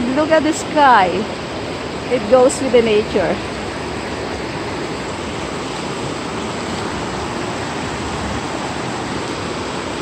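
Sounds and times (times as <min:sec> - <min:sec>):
rushing river water: 0:00.0 - 0:10.0.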